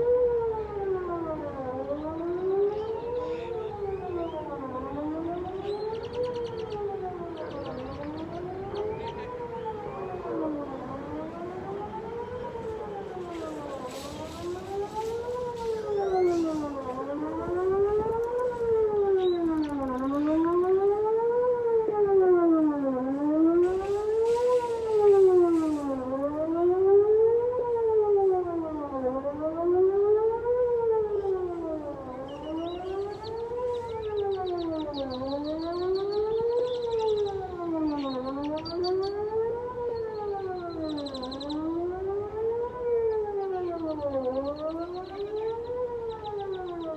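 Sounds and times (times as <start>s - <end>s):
distant warning siren wailing: 0.0s - 46.9s.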